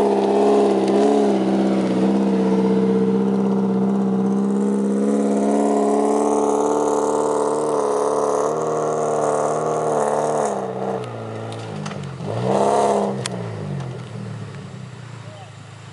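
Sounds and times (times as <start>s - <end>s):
vehicle engine revving: 0.0s - 15.9s.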